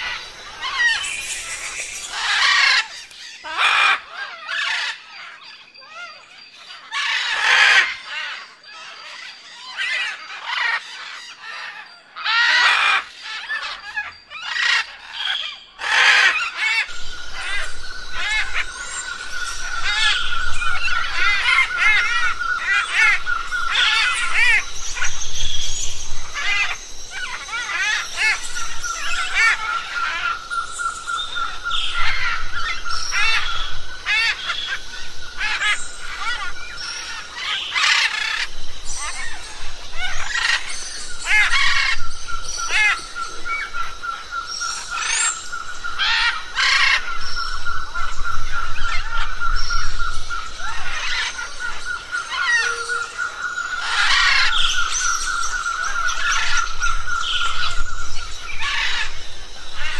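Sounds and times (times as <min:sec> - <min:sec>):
birds chirping: 0:00.0 - 0:59.9
birds squawking: 0:00.0 - 0:59.9.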